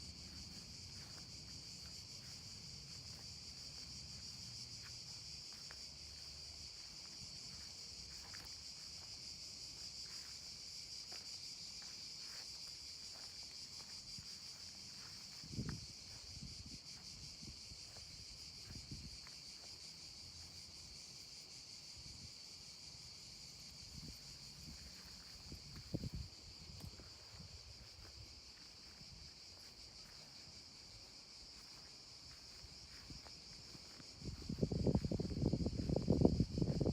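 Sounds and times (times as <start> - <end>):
insects buzzing: 0.0 - 36.9.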